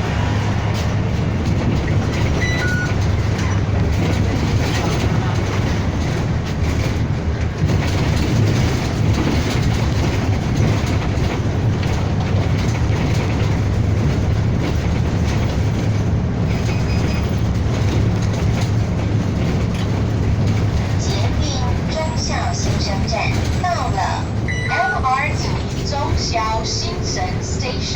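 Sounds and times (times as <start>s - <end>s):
bus engine rumble: 0.0s - 27.9s.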